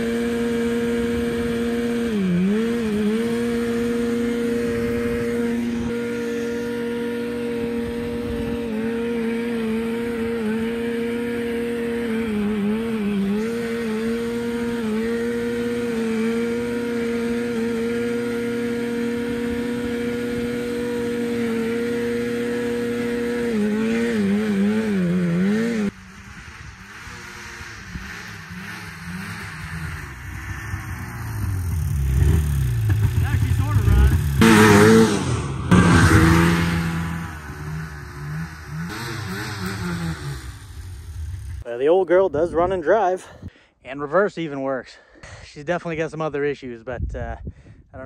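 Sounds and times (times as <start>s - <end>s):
snowmobile engine running: 0.0s - 43.2s.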